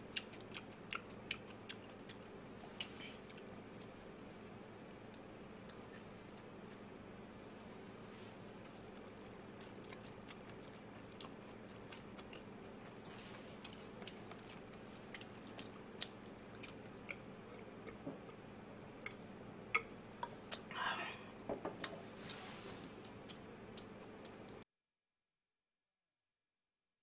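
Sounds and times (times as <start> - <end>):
chewing and crunching food: 0.0 - 18.4, 19.0 - 24.6
faint steady hum: 0.0 - 24.6.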